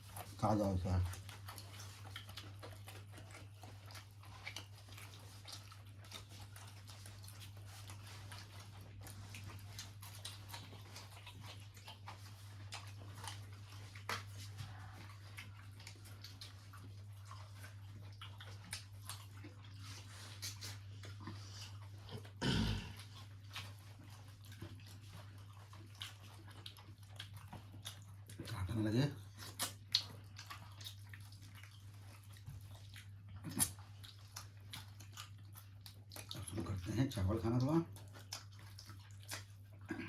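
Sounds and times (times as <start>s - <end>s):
chewing and mouth smacks: 0.0s - 40.0s.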